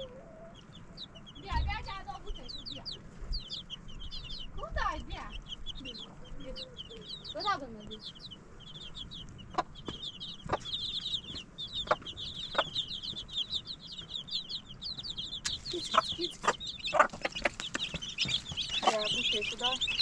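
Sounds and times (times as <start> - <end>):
chicks peeping: 0.0 - 20.0
hen clucking: 0.0 - 20.0.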